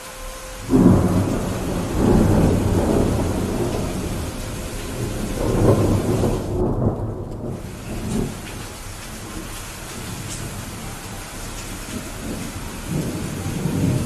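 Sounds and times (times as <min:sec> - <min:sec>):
heavy rain: 0:00.0 - 0:14.0
thunder rumbling: 0:00.0 - 0:14.0.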